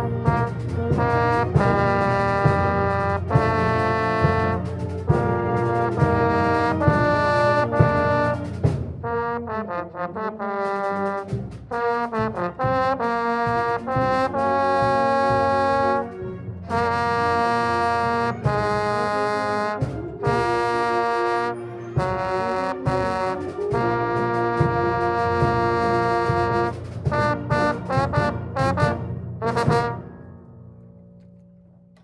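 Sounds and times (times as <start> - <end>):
brass band playing a fanfare: 0.0 - 30.2.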